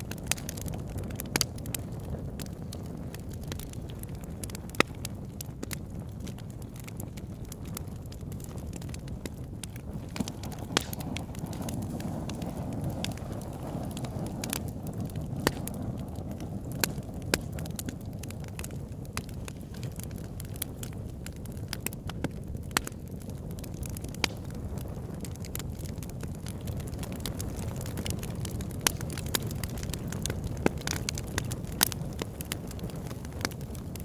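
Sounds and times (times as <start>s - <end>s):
campfire flames rushing: 0.0s - 34.0s
fire crackles and pops: 0.0s - 34.0s.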